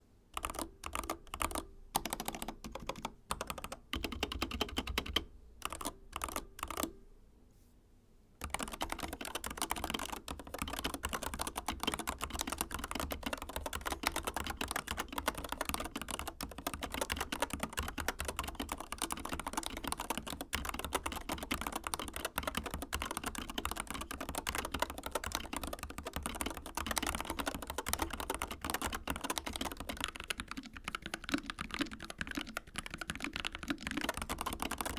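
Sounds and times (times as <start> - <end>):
mechanical keyboard typing: 0.4 - 7.0, 8.4 - 34.9.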